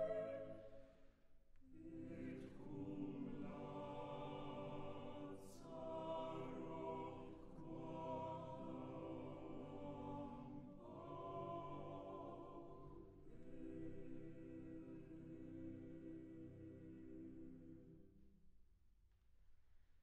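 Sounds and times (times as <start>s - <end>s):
choir singing a cappella: 0.0s - 0.8s, 1.7s - 18.2s.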